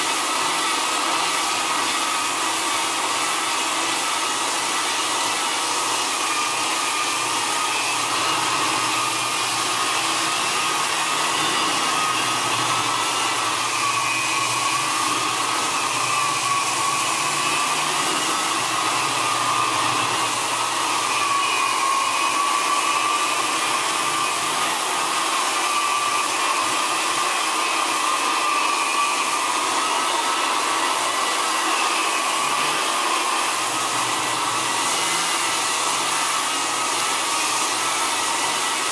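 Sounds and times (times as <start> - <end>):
floor edger motor whine: 0.0 - 38.9.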